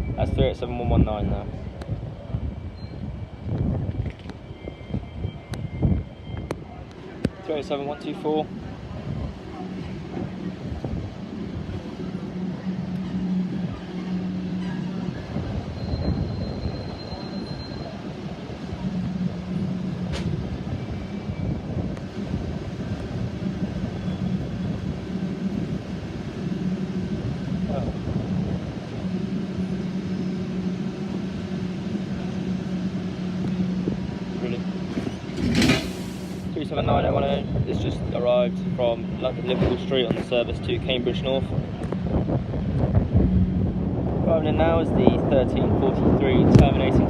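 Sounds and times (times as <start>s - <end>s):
wind buffeting microphone: 0.0s - 7.4s, 8.1s - 47.0s
electric train humming: 1.4s - 45.0s.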